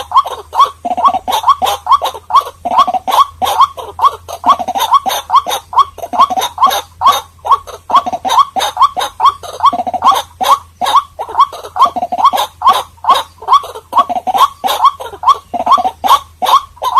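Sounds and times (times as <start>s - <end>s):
waterhen calling: 0.0s - 16.9s.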